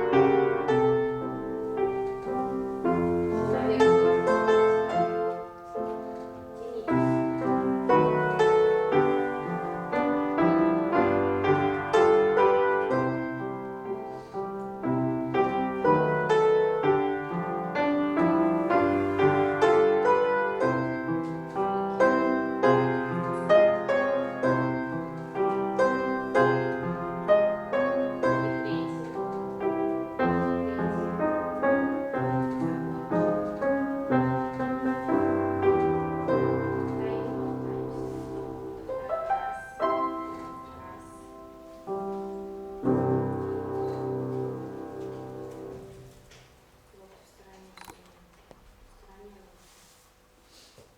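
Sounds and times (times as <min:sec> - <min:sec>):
piano playing: 0:00.0 - 0:46.3.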